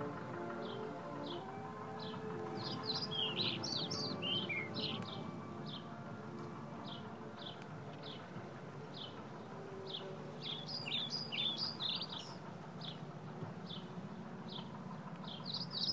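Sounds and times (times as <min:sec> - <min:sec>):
jumbled birdsong burst: 0:00.0 - 0:15.9.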